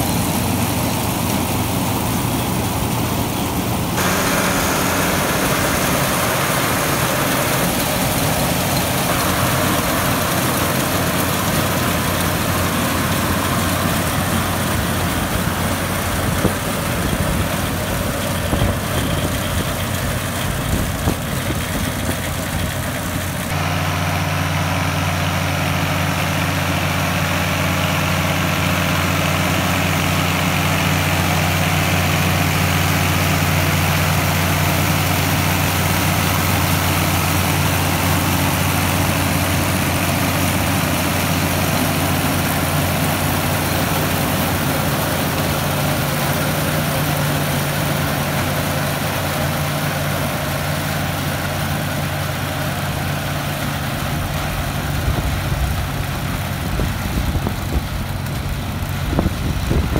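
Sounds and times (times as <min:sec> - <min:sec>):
corn picker machinery working: 0:00.0 - 0:59.9
tractor diesel engine running: 0:00.0 - 0:59.9.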